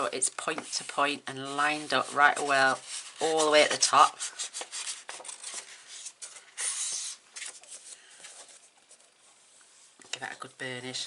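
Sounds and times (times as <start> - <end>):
paper rustling and folding: 0.4 - 9.4.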